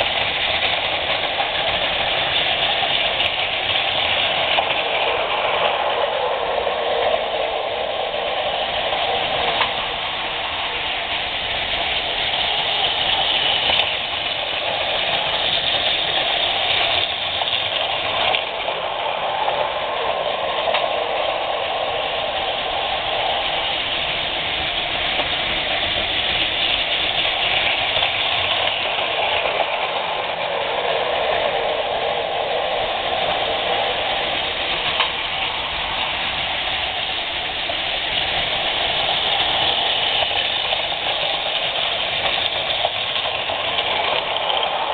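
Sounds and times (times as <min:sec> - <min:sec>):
toy train motors whirring: 0:00.0 - 0:44.9.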